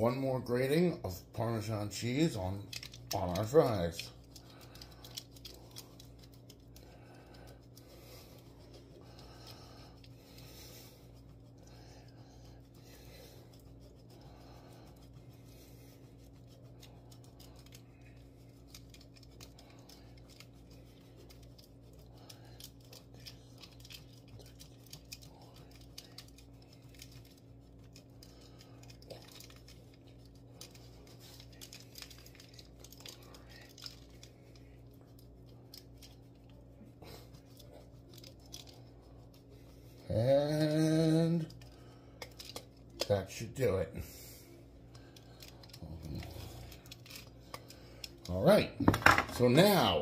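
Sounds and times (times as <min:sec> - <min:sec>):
low electrical hum: 0:00.0 - 0:50.0.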